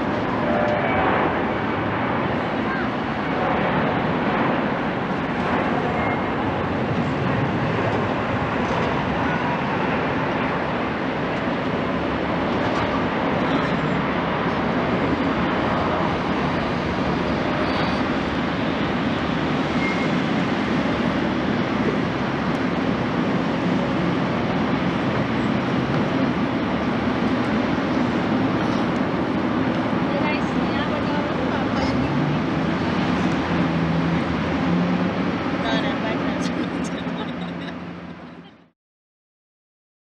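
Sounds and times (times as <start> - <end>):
jet engines at takeoff: 0.0 - 38.5.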